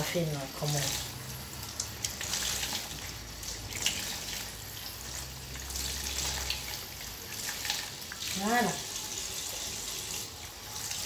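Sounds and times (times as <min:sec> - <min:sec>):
water splashing in a metal sink: 0:00.0 - 0:11.0.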